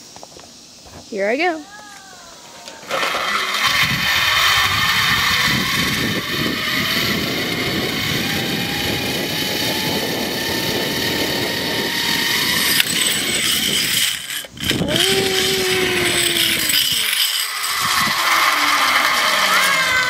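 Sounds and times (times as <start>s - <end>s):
zipline pulley whine: 2.3s - 20.0s
rushing wind: 2.9s - 20.0s.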